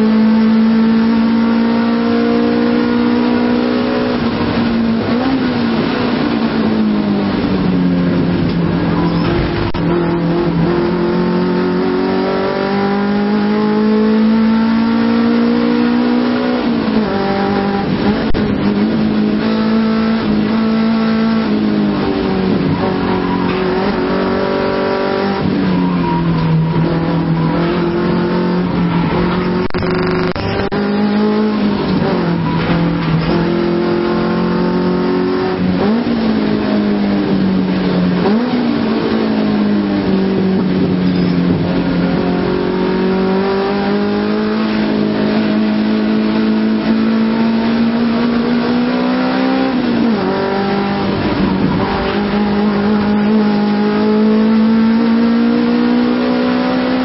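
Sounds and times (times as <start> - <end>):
car engine revving with gear changes: 0.0 - 57.0.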